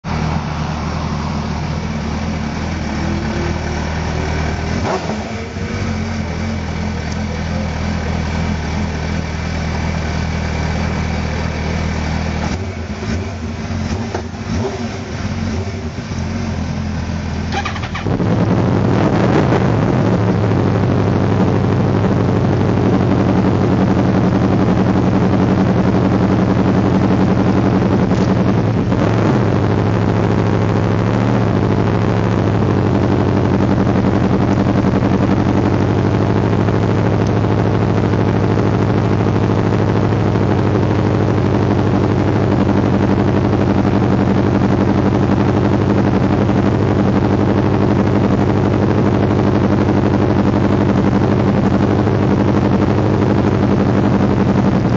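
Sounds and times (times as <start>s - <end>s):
motorcycle engine idling: 0.0s - 19.0s, 19.6s - 54.9s.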